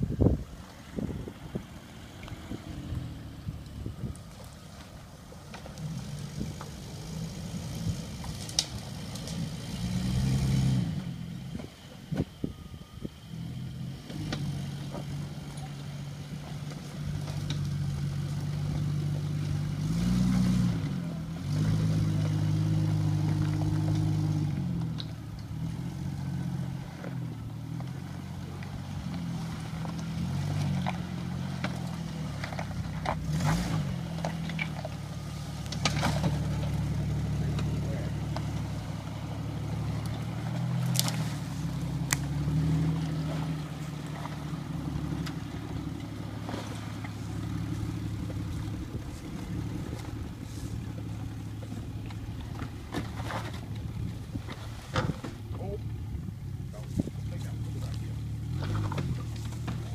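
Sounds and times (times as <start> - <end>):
car engine revving: 1.0 - 12.1, 13.3 - 59.9.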